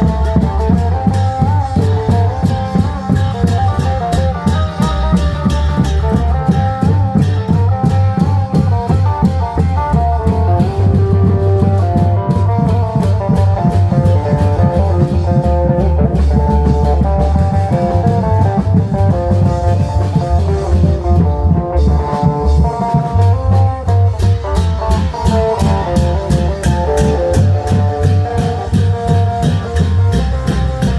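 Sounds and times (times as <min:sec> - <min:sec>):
cymbals: 0:00.0 - 0:30.9
heavy bass line: 0:00.0 - 0:30.9
lute picking fast melody: 0:00.0 - 0:30.9
steady drumming: 0:00.0 - 0:30.9.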